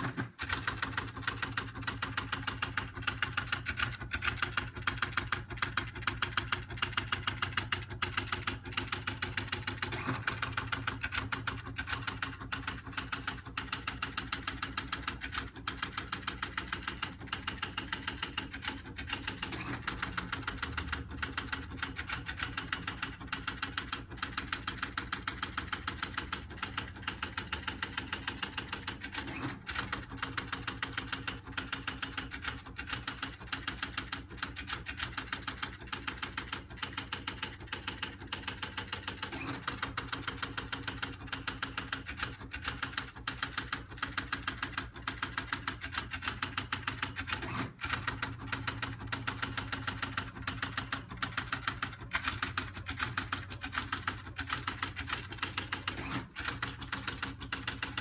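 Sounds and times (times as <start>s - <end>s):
teleprinter clatter: 0.0s - 58.0s.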